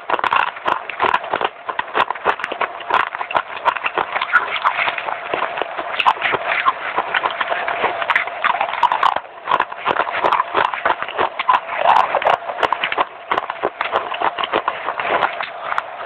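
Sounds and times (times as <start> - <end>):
baked clay being chewed: 0.0 - 16.0.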